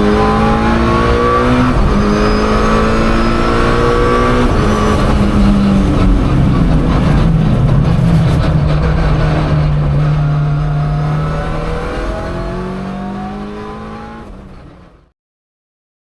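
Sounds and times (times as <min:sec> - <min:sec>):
car engine revving and accelerating: 0:00.0 - 0:15.1.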